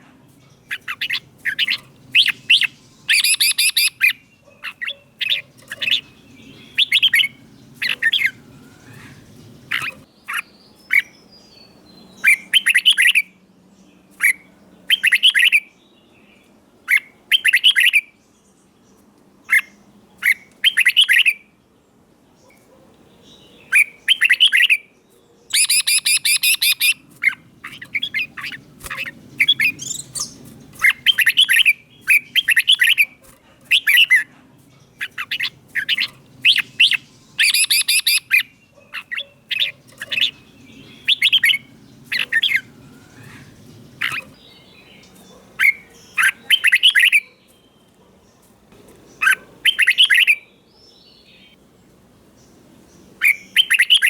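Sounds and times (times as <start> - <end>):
bulbul singing: 0.0 - 13.4, 14.0 - 18.3, 22.5 - 24.9, 25.5 - 51.6, 52.3 - 54.0.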